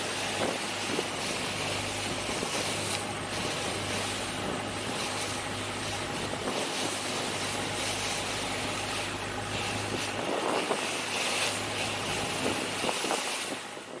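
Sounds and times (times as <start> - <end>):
boat engine running: 0.0 - 14.0
water splashing: 0.0 - 14.0.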